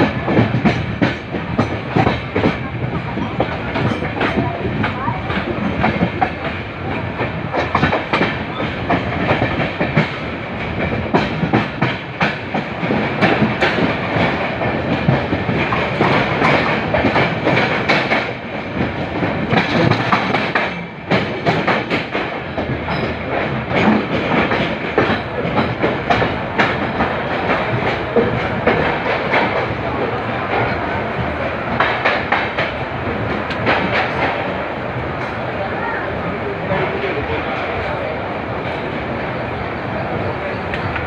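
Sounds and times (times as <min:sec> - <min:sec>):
train wheels clattering over rail joints: 0:00.0 - 0:35.4
train running rumble: 0:00.0 - 0:41.0.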